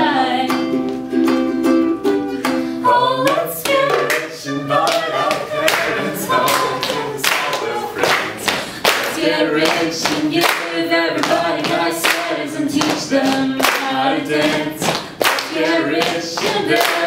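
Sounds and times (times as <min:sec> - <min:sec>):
woman singing: 0:00.0 - 0:01.0, 0:02.8 - 0:08.1, 0:09.0 - 0:17.0
hand claps keeping a beat: 0:03.2 - 0:17.0.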